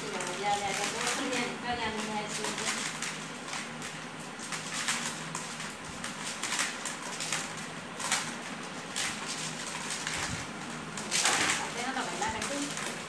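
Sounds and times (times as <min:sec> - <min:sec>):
maize kernels rasping rattle: 0:00.0 - 0:13.0.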